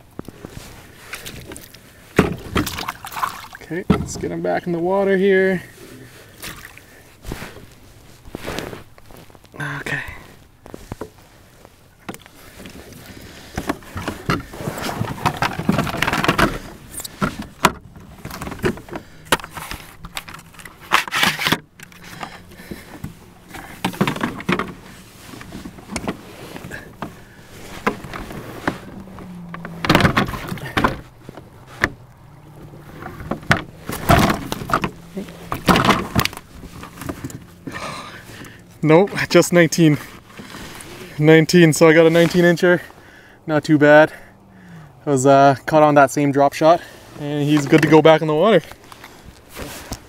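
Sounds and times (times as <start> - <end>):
fishing gear knocking and rustling: 0.0 - 4.7, 5.6 - 42.7, 47.1 - 50.0.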